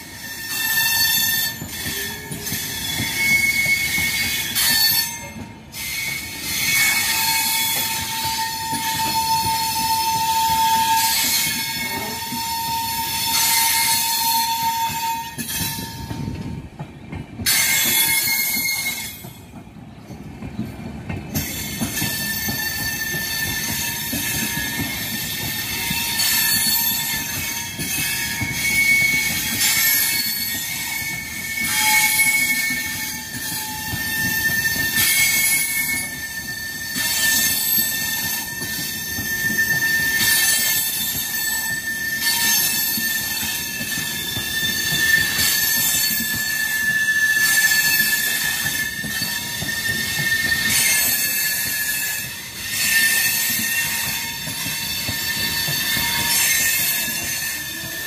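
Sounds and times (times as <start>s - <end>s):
train coaches rumbling: 0.0s - 58.0s
wheels squealing on rail: 0.0s - 58.0s.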